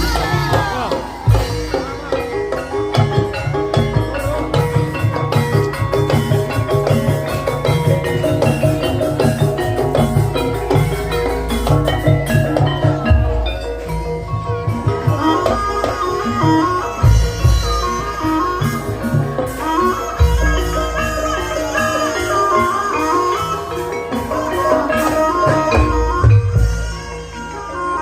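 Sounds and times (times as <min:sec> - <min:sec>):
hand drum strokes: 0:00.0 - 0:28.0
mallet percussion melody: 0:00.0 - 0:28.0.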